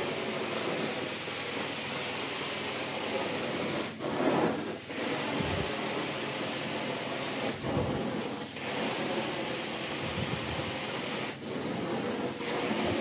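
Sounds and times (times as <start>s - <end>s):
carpet cleaning wand hissing: 0.0s - 13.0s.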